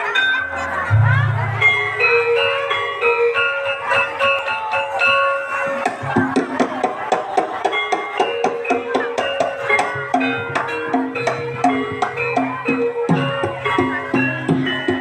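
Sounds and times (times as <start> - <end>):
ringing metallophone notes: 0.0 - 15.0.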